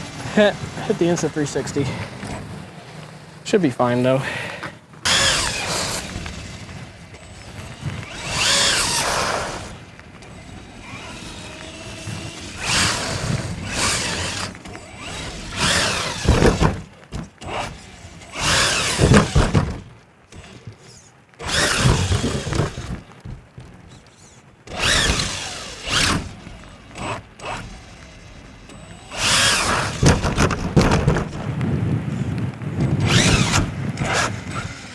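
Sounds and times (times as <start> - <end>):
electric motor whining: 0.0 - 34.9.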